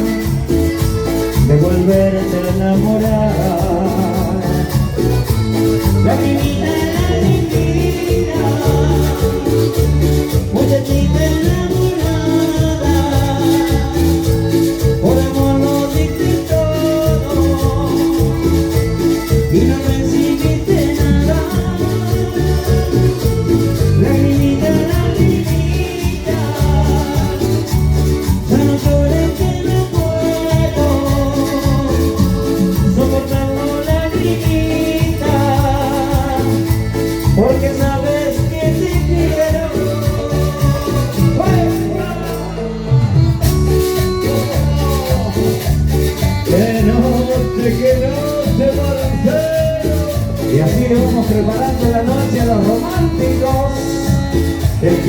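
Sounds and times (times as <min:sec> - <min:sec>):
shaker: 0:00.0 - 0:42.4, 0:43.4 - 0:55.0
cumbia band over sound system: 0:00.0 - 0:55.0.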